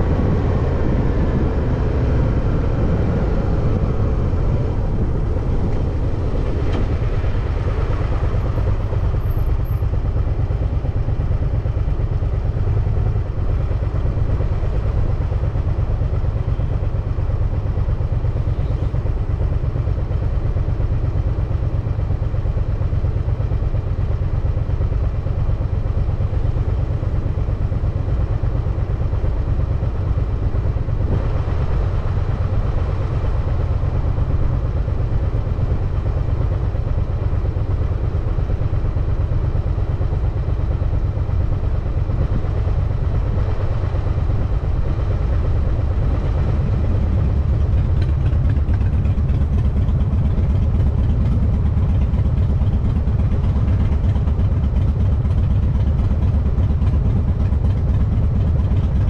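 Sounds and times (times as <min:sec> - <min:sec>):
wind and road noise on microphone: 0:00.0 - 0:59.0.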